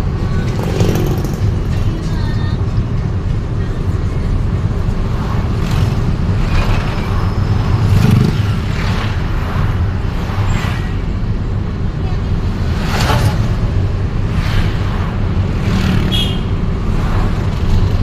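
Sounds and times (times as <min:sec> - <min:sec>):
road and traffic noise: 0:00.0 - 0:18.0
vehicle rumble in traffic: 0:00.0 - 0:18.0.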